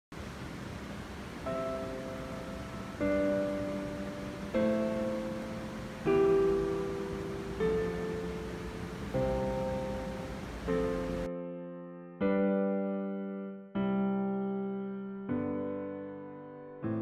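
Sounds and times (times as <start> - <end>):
slow piano chords: 0.3 - 17.0.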